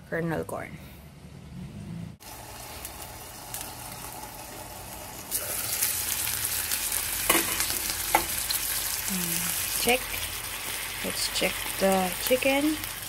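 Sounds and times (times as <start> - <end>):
chicken sizzling in a frying pan: 2.2 - 13.0.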